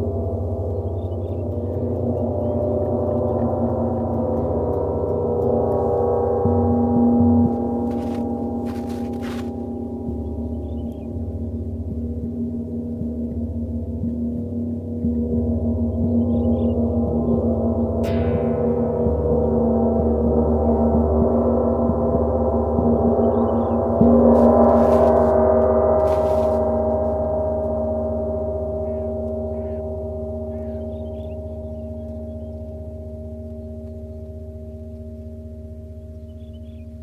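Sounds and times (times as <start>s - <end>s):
mallet striking gong: 0.0s - 36.2s
gongs ringing: 0.0s - 37.0s.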